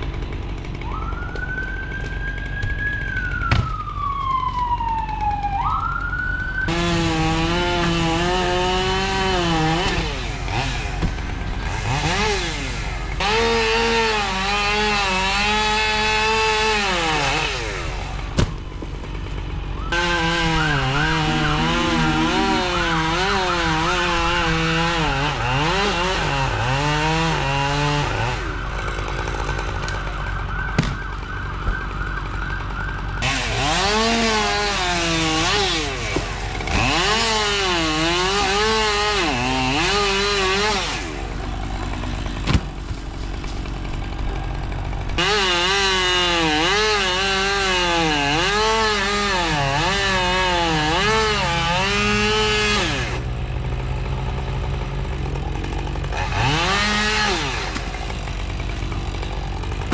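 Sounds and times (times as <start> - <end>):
chainsaw cutting wood: 0.0 - 3.8, 6.0 - 31.1, 32.2 - 59.9.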